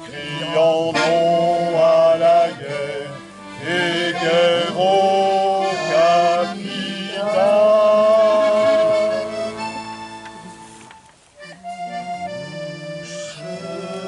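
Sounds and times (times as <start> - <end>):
person singing: 0.0 - 9.7, 11.8 - 14.0
instrumental accompaniment: 0.0 - 14.0.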